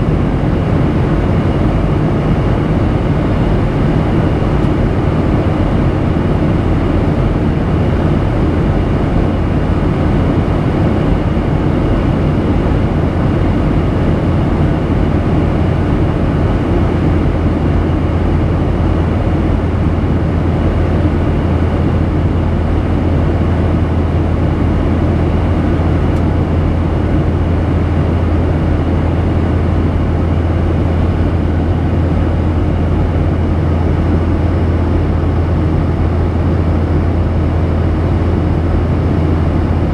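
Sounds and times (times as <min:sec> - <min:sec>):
aircraft cabin engine and airflow noise: 0:00.0 - 0:39.9
low hum: 0:00.0 - 0:39.9.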